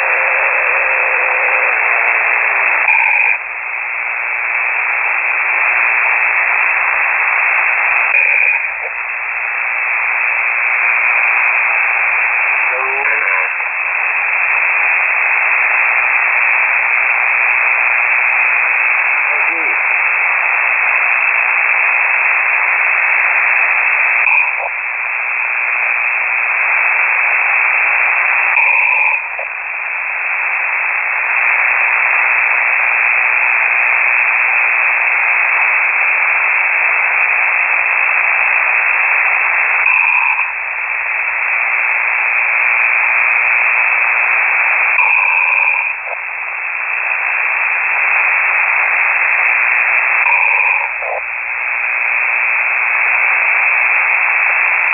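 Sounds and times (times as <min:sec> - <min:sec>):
rushing radio hiss: 0:00.0 - 0:54.9.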